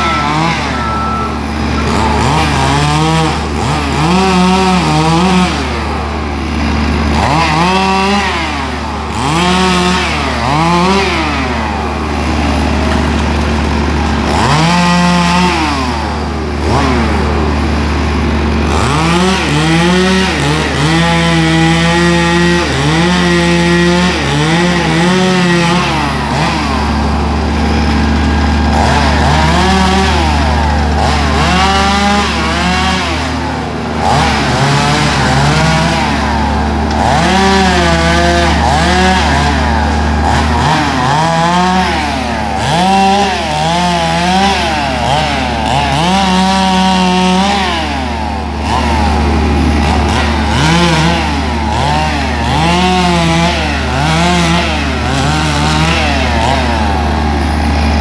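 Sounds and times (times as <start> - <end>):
chainsaw cutting branches: 0.0 - 58.0
low engine hum: 0.0 - 58.0.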